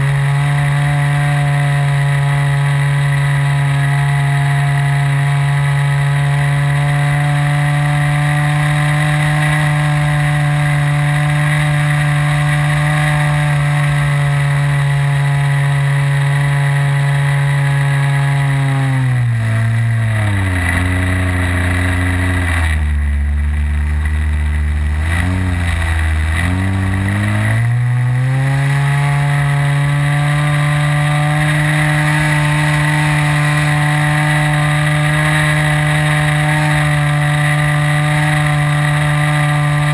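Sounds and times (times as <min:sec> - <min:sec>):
model plane engine and propeller: 0:00.0 - 0:39.9.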